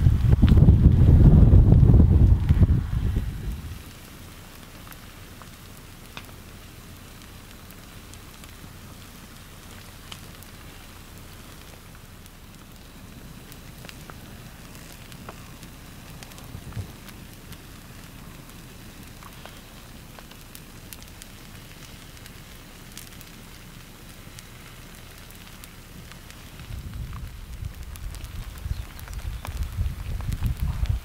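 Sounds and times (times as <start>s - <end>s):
faint low rumble: 0.0s - 31.0s
lava crackling and popping: 0.0s - 31.0s.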